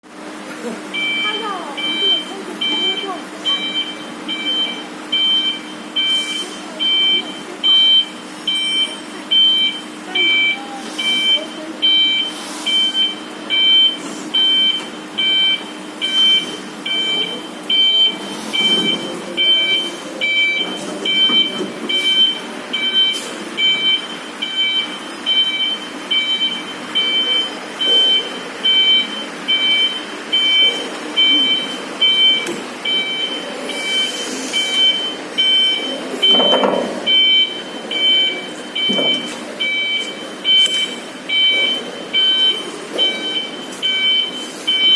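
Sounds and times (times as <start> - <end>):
forklift warning beeps: 0.1 - 44.9.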